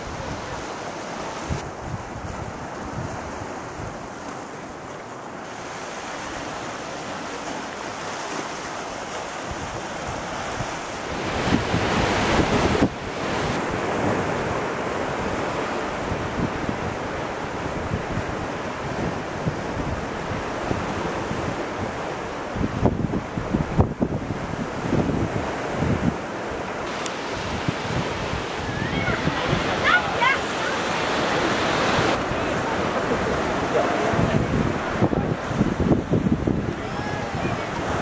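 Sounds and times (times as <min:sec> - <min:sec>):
sea surf: 0:00.0 - 0:38.0
wind blowing across microphone: 0:00.0 - 0:38.0.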